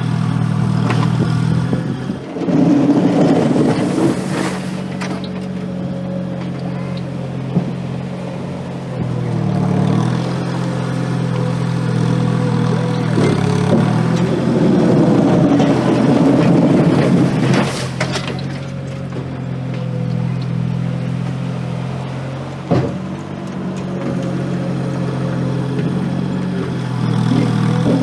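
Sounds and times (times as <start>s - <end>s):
diesel engine revving and working: 0.0s - 28.0s.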